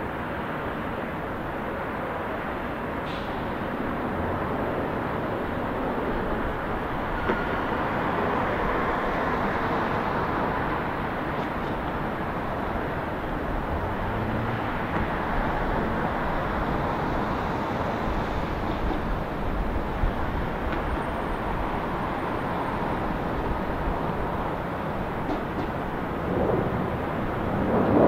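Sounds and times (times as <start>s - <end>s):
jet engines roaring: 0.6s - 28.0s.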